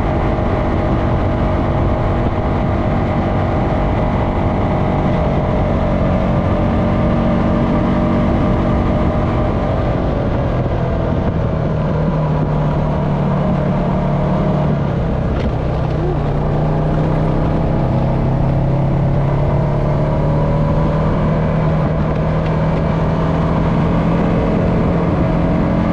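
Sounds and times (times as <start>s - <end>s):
quad bike engine running: 0.0s - 25.9s
wind: 0.0s - 25.9s.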